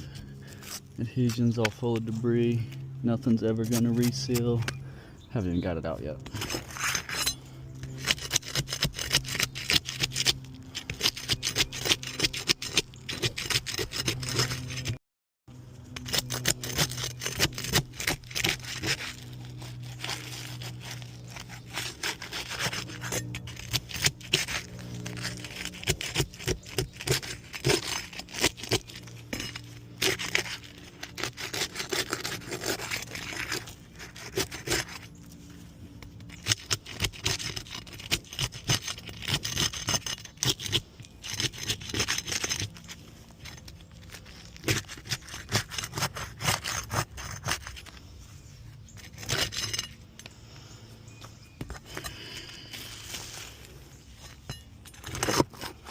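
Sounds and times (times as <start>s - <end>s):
tool scraping asphalt shingles: 0.0s - 15.0s, 15.6s - 55.9s.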